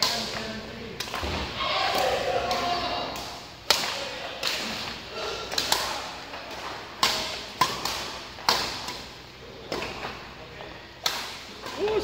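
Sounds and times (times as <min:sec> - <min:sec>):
racquets striking shuttlecock: 0:00.0 - 0:12.0.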